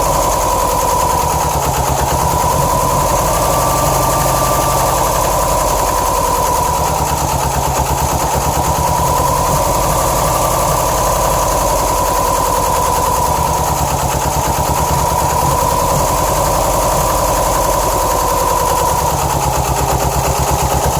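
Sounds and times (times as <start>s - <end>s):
car engine idling roughly: 0.0s - 20.9s
steady whine: 0.0s - 20.9s.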